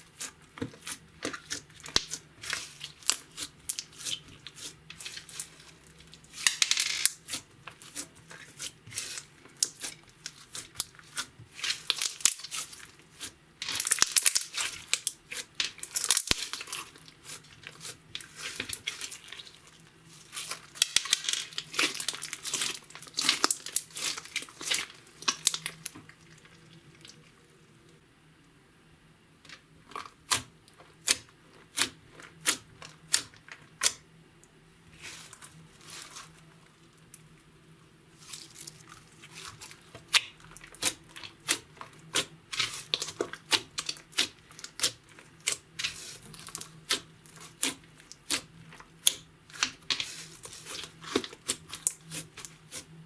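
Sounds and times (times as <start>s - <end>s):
slime squishing and crackling: 0.0s - 27.4s, 29.5s - 34.0s, 34.9s - 37.3s, 38.1s - 53.0s.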